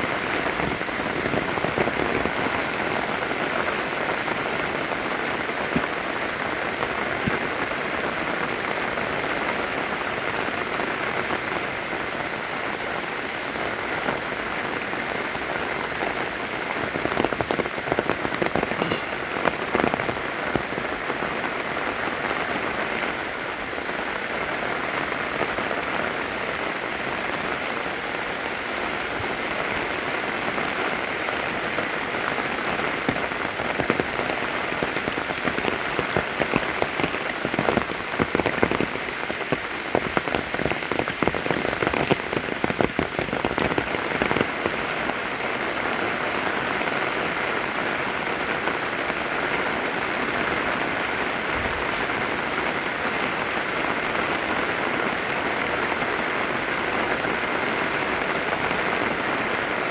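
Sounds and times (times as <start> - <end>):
steady rain with dripping drops: 0.0 - 59.9.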